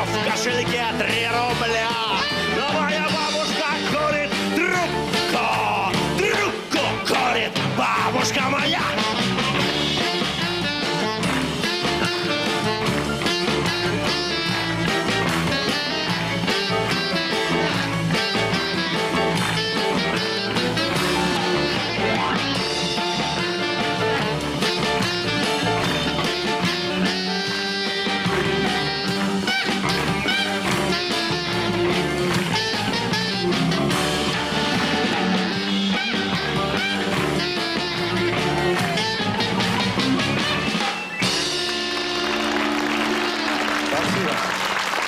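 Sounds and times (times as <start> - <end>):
saxophone: 0.0 - 7.0, 8.2 - 45.0
guitar: 0.0 - 44.4
keyboard: 0.0 - 44.8
drum kit: 0.0 - 45.0.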